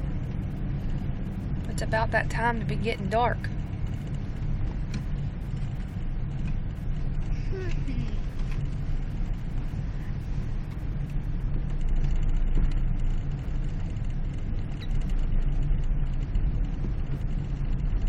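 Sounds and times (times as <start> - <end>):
car engine and road rumble: 0.0 - 18.0
small clicks and crackles: 0.0 - 18.0.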